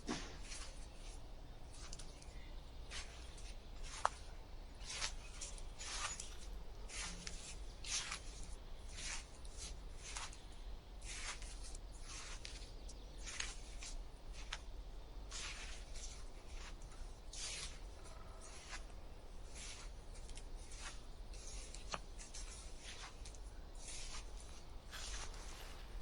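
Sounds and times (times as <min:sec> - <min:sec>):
scratchy rasping strokes: 0:02.8 - 0:10.4, 0:11.0 - 0:14.7, 0:15.3 - 0:26.0.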